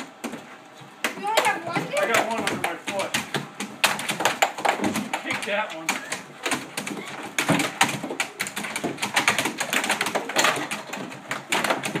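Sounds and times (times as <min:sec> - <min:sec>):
air hockey puck and mallet clacks: 0:00.0 - 0:12.0
dog claws tapping: 0:01.0 - 0:12.0.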